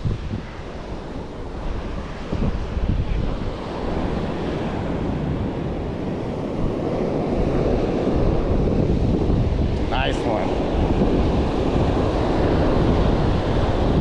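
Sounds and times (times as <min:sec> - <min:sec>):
ocean surf washing in: 0:00.0 - 0:14.0
wind buffeting microphone: 0:00.0 - 0:14.0.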